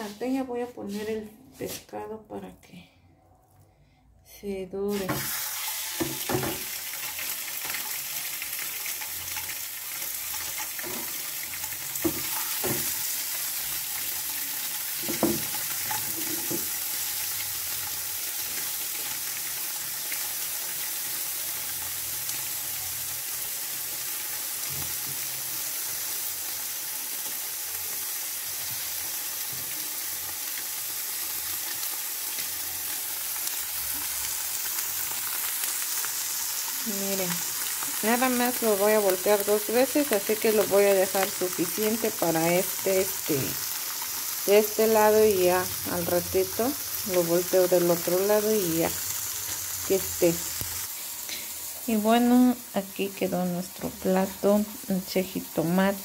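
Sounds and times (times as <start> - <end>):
fish sizzling in frying pan: 4.9 - 56.0.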